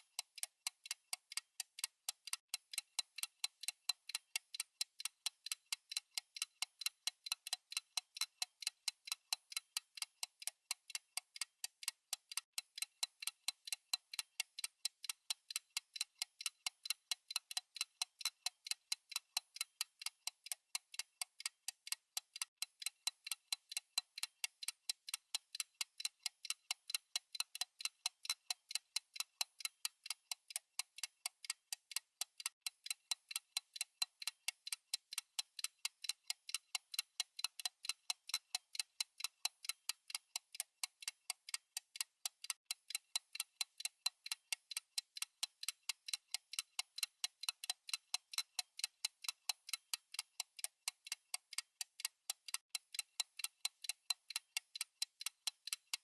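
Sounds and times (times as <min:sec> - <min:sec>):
fast clock ticking: 0:00.0 - 0:56.0.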